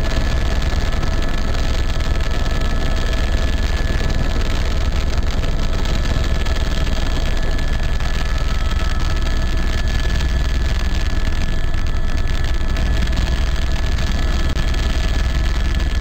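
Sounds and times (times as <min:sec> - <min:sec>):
aircraft engine drone: 0:00.0 - 0:16.0
faint whining tones: 0:00.0 - 0:16.0.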